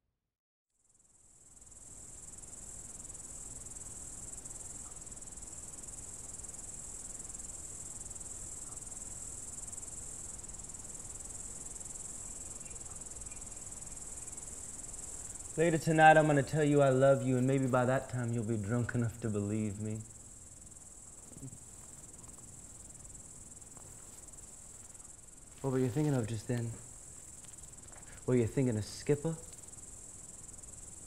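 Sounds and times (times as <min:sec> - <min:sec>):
crickets chirping: 0:00.8 - 0:31.0.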